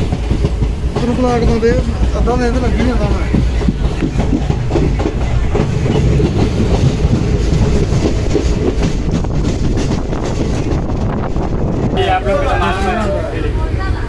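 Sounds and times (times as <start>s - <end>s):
wheels clattering over track: 0.0s - 13.2s
train coach rumbling: 0.0s - 14.0s.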